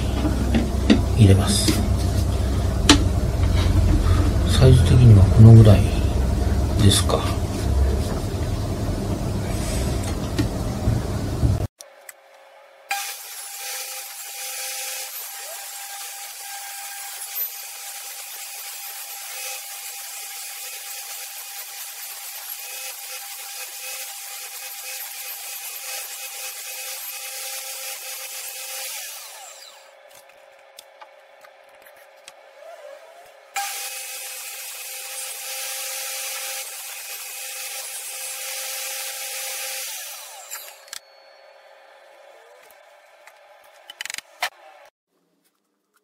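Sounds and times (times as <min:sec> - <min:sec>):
table saw cutting plywood: 0:00.0 - 0:11.7, 0:12.9 - 0:30.0, 0:32.1 - 0:41.0.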